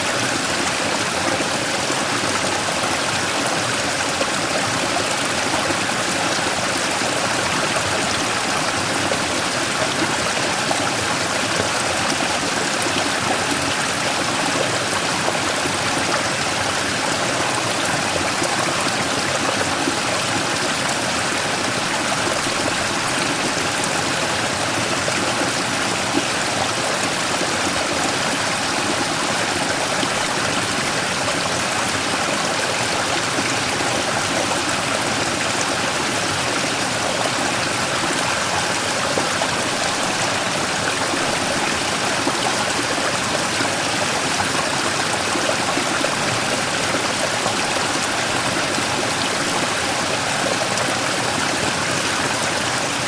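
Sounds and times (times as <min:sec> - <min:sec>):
stream rushing over rock: 0:00.0 - 0:53.0.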